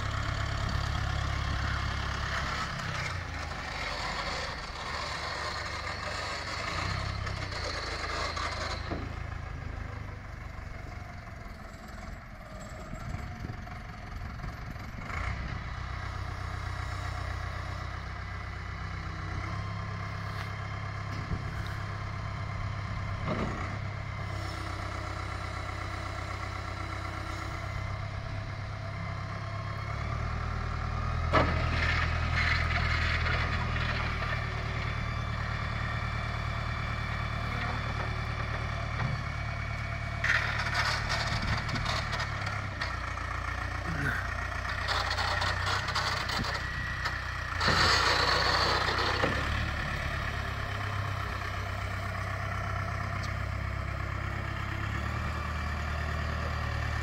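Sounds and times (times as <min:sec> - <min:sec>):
forklift engine running: 0:00.0 - 0:57.0.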